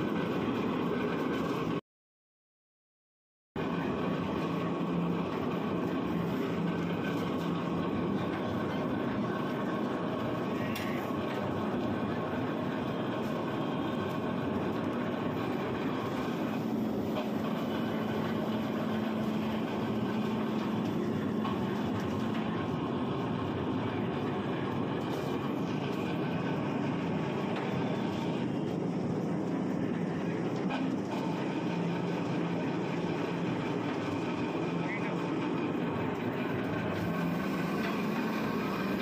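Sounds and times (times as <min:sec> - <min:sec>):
concrete mixer rumbling and rattling: 0:03.6 - 0:39.0
steady hum: 0:03.6 - 0:39.0.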